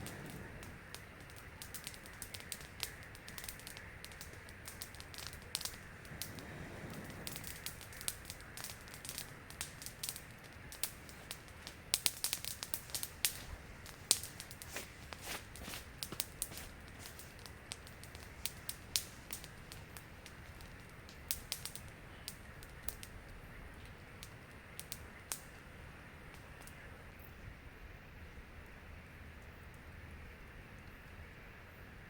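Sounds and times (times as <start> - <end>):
campfire crackling: 0.0 - 32.0
low hiss: 0.0 - 32.0.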